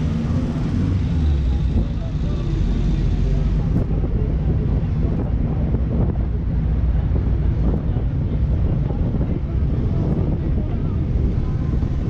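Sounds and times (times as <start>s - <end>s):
car engine and tyre rumble: 0.0s - 12.0s
wind rushing over microphone: 0.0s - 12.0s.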